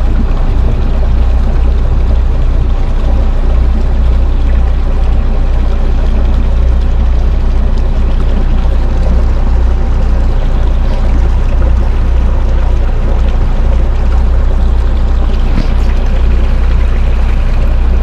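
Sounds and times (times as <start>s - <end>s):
boat diesel engine idling: 0.0s - 18.0s.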